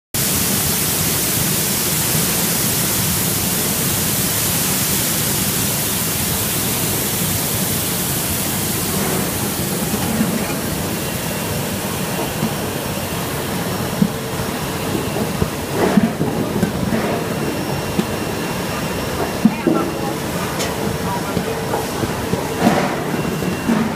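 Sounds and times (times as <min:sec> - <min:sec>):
water spraying and churning: 0:00.2 - 0:23.9.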